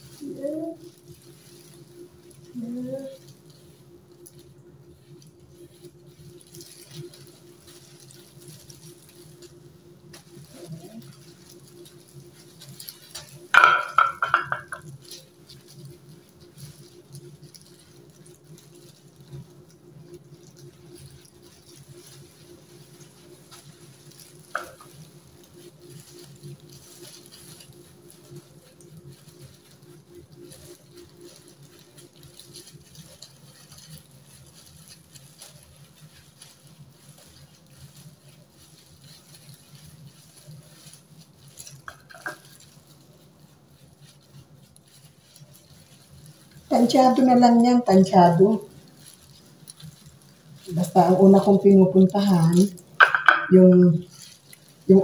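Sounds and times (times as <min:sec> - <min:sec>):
brush working through wet hair: 0:00.0 - 0:55.0
gloved hands rustling: 0:00.0 - 0:55.0.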